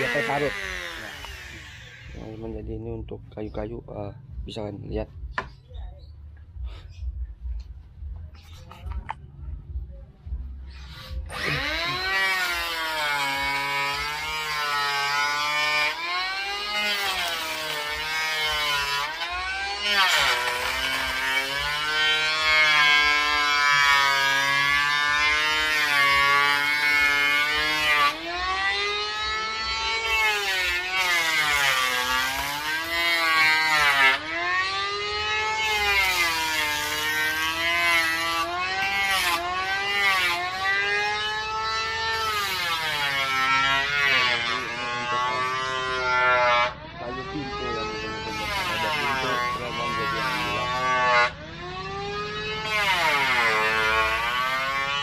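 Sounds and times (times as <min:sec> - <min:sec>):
electric planer motor whine: 0:00.0 - 0:02.4, 0:11.0 - 0:55.0.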